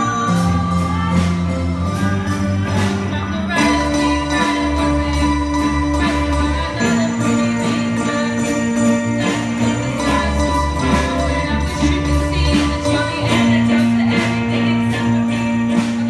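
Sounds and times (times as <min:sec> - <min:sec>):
electronic keyboard music: 0:00.0 - 0:16.0.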